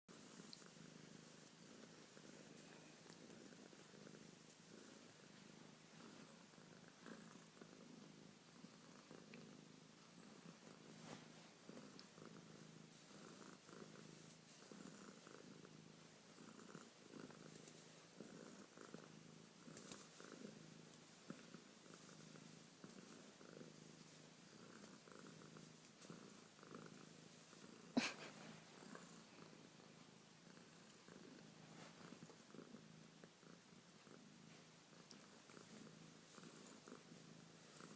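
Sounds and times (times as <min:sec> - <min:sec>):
cat purring: 0:00.1 - 0:37.9.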